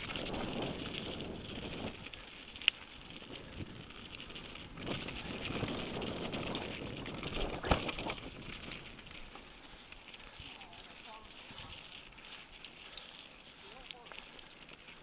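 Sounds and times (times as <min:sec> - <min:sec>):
bike rattling: 0:00.0 - 0:15.0
bike tyres crunching on gravel: 0:00.0 - 0:15.0.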